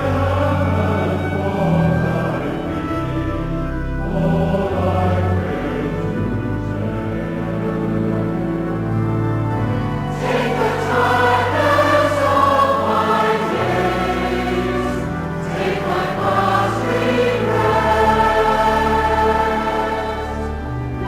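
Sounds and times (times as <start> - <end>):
choir singing a hymn: 0.0 - 21.0
instrumental accompaniment: 0.0 - 21.0.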